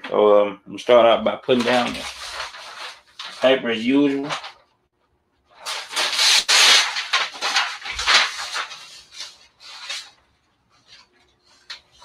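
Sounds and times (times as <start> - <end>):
paper rustling and scraping: 1.5 - 4.6, 5.5 - 12.0.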